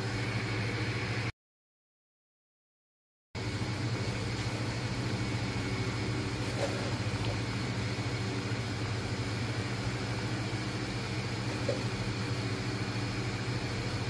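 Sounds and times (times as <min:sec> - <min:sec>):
low mechanical hum: 0:00.0 - 0:01.3, 0:03.4 - 0:14.0.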